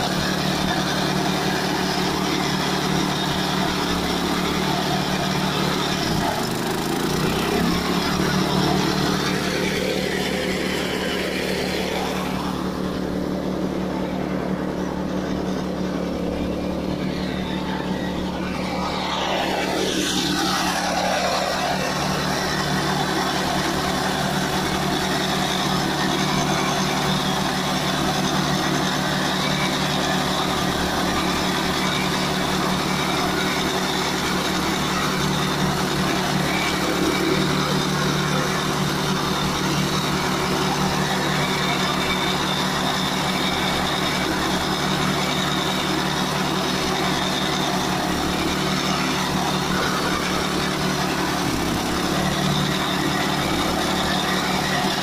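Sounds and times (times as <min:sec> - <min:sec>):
mower engine running: 0:00.0 - 0:55.0.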